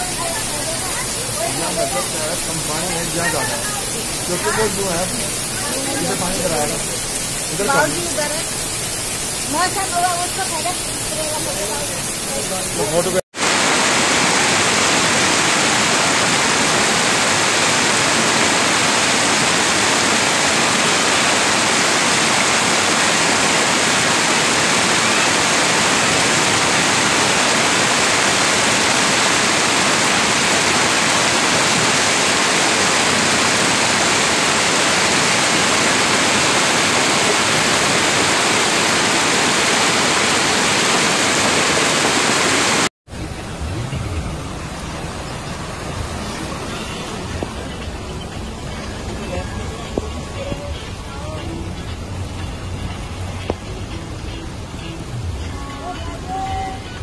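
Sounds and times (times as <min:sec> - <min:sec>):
floodwater rushing: 0:00.0 - 0:52.4.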